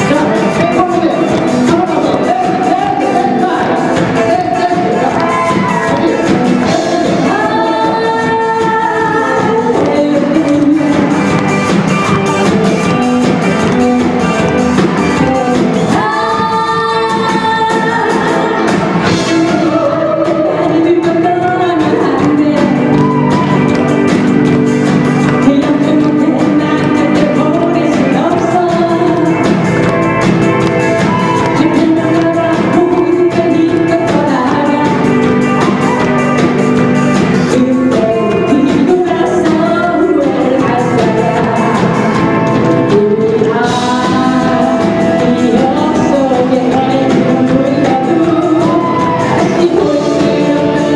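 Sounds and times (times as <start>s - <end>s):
bass guitar: 0.0s - 50.9s
drum kit: 0.0s - 50.9s
electric guitars: 0.0s - 50.9s
person singing: 0.0s - 50.9s.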